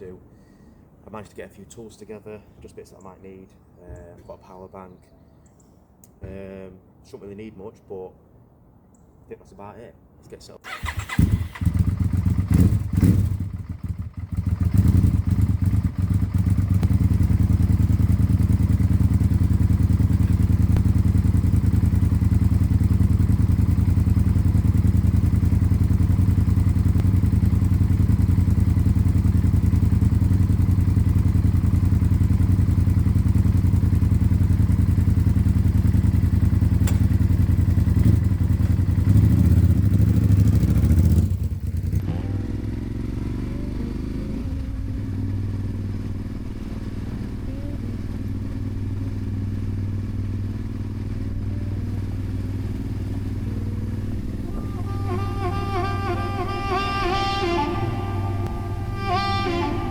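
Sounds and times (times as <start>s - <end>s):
motorcycle engine idling: 10.7s - 59.9s.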